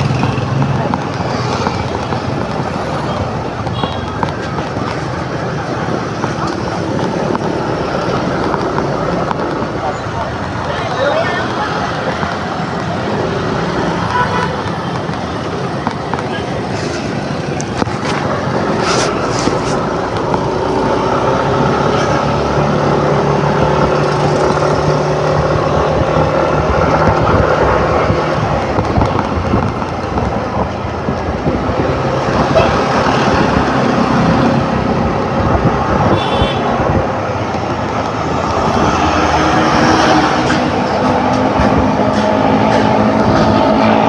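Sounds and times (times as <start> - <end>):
scooter engine humming: 0.0 - 44.0
wind and road noise: 0.0 - 44.0.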